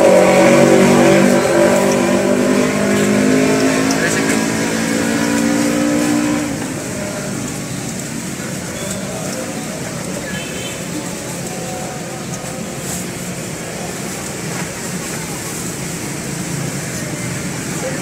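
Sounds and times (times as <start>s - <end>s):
indistinct voices: 0.0s - 18.0s
traffic noise: 0.0s - 18.0s.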